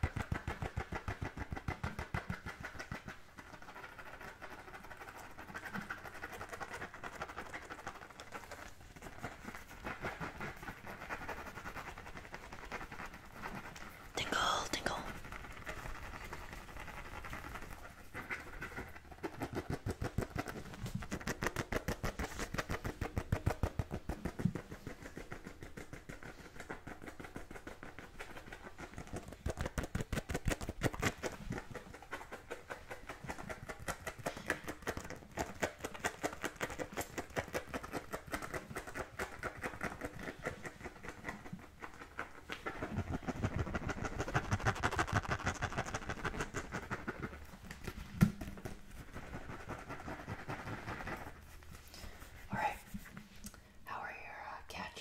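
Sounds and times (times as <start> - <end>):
fingernails scratching a football: 0.0 - 53.4.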